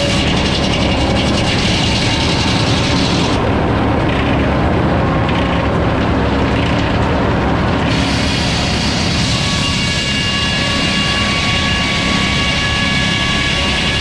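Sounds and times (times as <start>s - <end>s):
sawmill saw cutting lumber: 0.0s - 3.4s, 6.1s - 14.0s.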